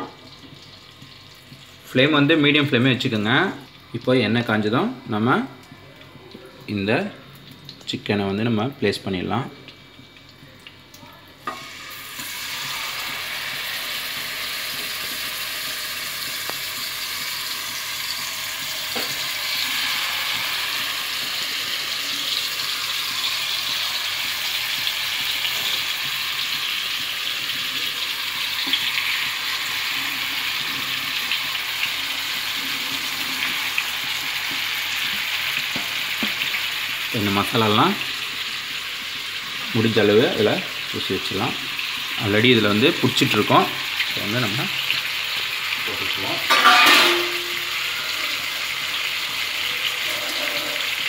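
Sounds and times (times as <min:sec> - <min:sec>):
chicken sizzling in frying pan: 0:00.0 - 0:51.0.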